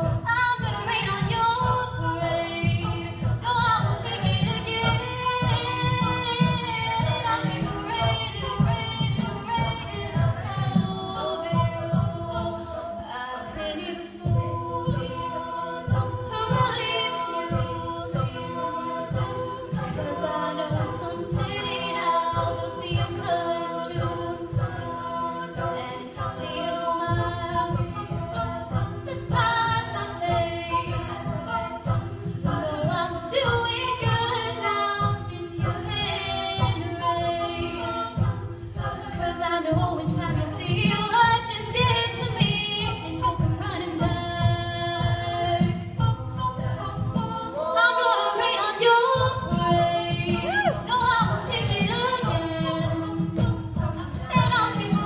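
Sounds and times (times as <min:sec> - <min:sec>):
voices singing over a beat: 0:00.0 - 0:55.0.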